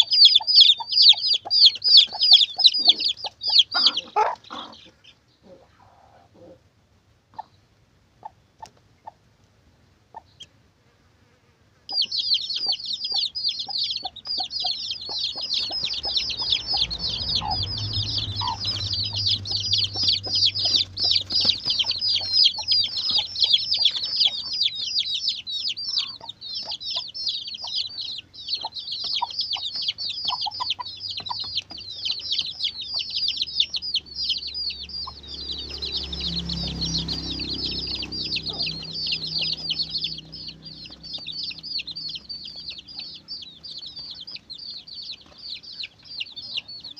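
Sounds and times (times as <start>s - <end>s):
chicks peeping: 0.0s - 10.6s, 11.8s - 46.9s.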